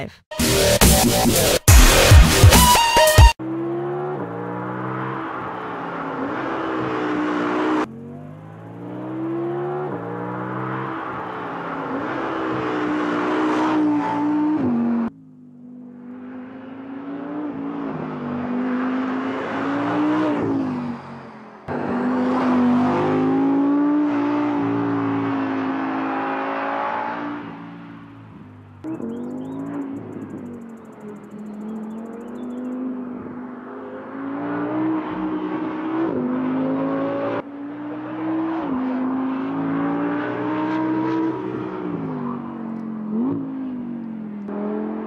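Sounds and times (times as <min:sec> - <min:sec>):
sports car engine revving: 0:03.4 - 0:45.0.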